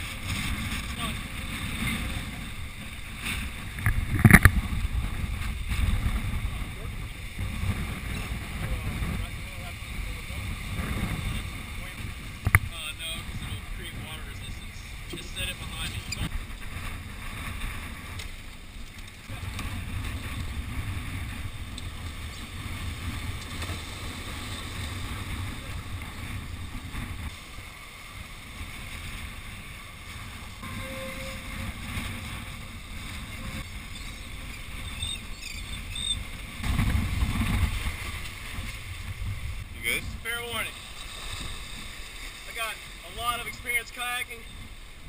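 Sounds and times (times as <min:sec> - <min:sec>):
waves washing against rocks: 0:00.0 - 0:30.8, 0:36.2 - 0:45.0
wind rumbling on microphone: 0:00.0 - 0:45.0.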